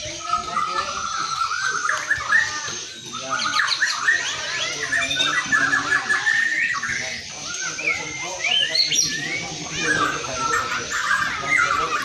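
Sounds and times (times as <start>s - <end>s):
songbird whistles and chirps: 0.0s - 12.0s.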